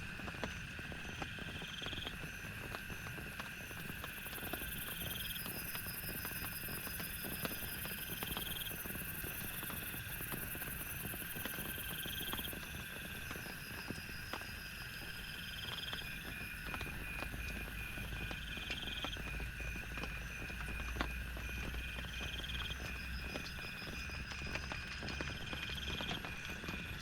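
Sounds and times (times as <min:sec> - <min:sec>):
low rumble of rain: 0:00.0 - 0:27.0
frogs and insects calling: 0:00.1 - 0:27.0.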